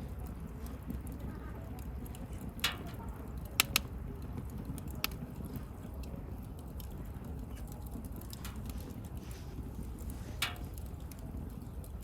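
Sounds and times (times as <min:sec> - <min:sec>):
bonfire burning rumble: 0:00.0 - 0:12.0
fire popping: 0:00.0 - 0:12.0.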